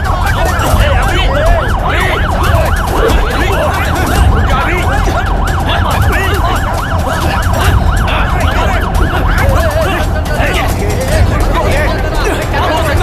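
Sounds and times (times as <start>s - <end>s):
crowd noise: 0.0s - 13.0s
police siren yelping: 0.0s - 13.0s.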